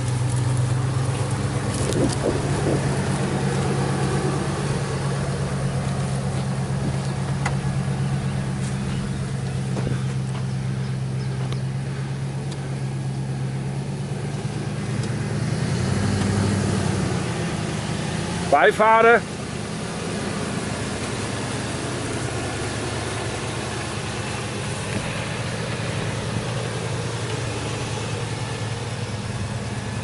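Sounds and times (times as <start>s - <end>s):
truck engine running at low revs: 0.0s - 30.0s.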